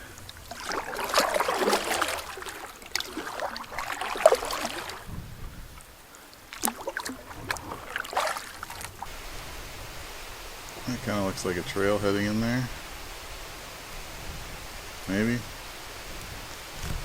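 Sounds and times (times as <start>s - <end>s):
paddle swishing in water: 0.0s - 17.0s.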